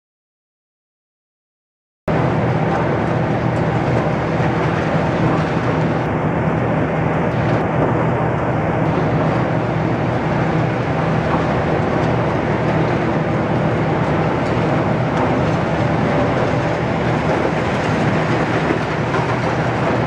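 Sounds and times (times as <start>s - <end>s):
continuous noisy wash: 2.1s - 20.0s
crusher working concrete: 2.1s - 20.0s
excavator engine and hydraulics drone: 2.1s - 20.0s.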